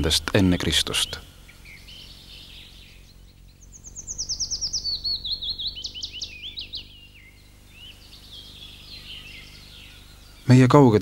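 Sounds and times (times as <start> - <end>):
faint background hum: 0.0 - 11.0
songbird singing: 0.0 - 11.0.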